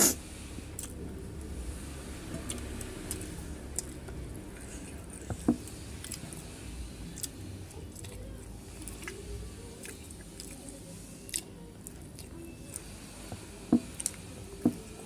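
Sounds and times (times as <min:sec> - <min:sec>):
soft chewing: 0:02.2 - 0:15.0.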